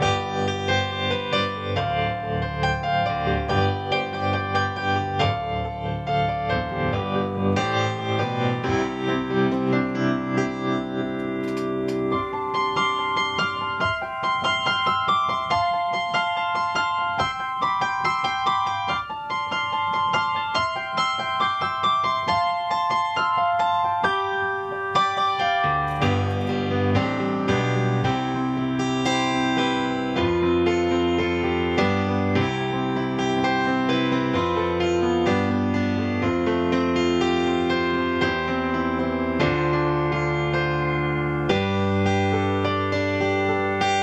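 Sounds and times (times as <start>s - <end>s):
electric piano playing chords: 0.0s - 44.0s.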